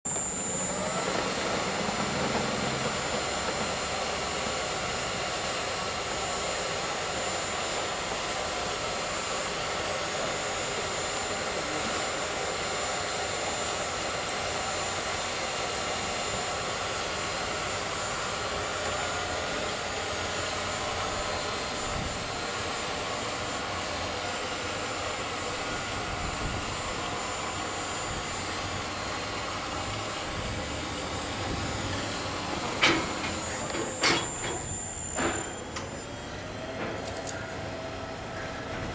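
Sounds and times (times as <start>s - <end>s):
electric hoist drone with whine: 0.1s - 38.9s.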